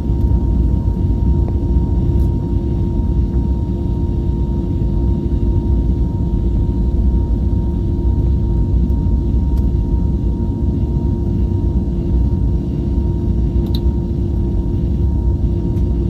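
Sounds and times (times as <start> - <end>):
airliner engine low rumble: 0.0 - 16.0
low humming tone: 0.0 - 16.0.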